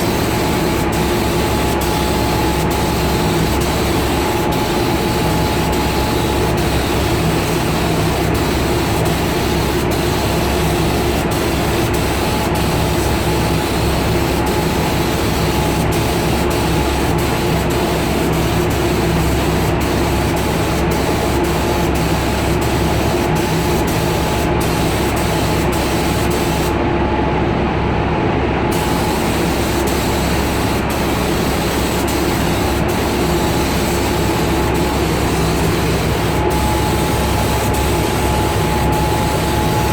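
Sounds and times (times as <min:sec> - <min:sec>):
spray gun hissing: 0:00.0 - 0:26.8, 0:28.7 - 0:39.9
machine hum: 0:00.0 - 0:39.9.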